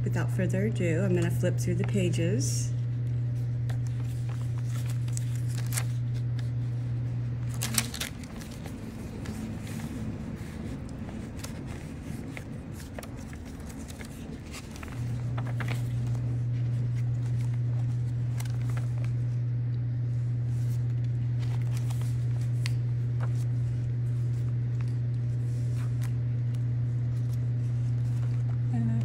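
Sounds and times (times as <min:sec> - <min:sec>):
steady low hum: 0:00.0 - 0:29.0
paper pages rustling: 0:02.8 - 0:29.0.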